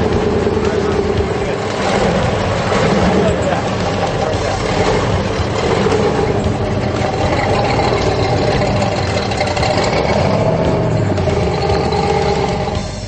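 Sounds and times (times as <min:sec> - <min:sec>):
engine revving: 0:00.0 - 0:13.0
rush of noise: 0:00.0 - 0:13.0.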